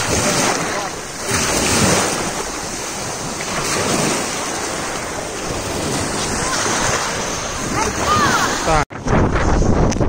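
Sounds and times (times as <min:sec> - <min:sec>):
waves washing on pebbly shore: 0:00.0 - 0:08.8
wind on microphone: 0:00.0 - 0:10.0.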